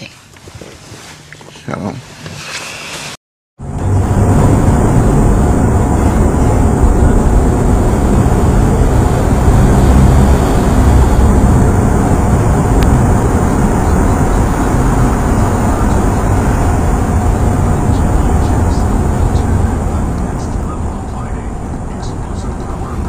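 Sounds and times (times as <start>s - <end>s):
low rumble of vehicle noise: 3.6s - 23.0s.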